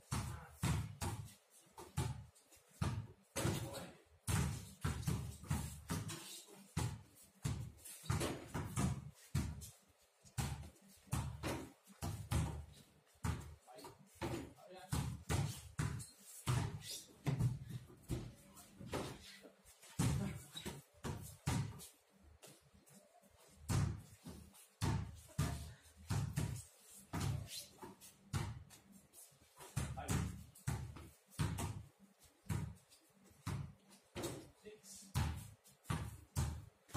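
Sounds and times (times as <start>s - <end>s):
basketballs bouncing on pavement: 0.0s - 22.6s, 23.4s - 36.9s.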